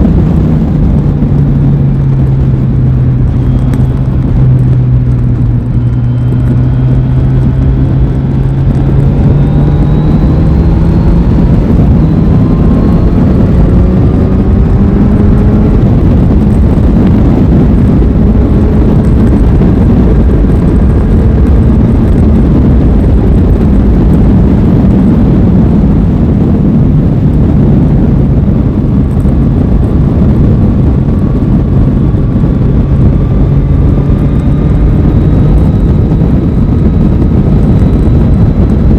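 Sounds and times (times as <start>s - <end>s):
motorcycle engine accelerating: 0.0s - 38.9s
steady rushing noise: 0.0s - 38.9s.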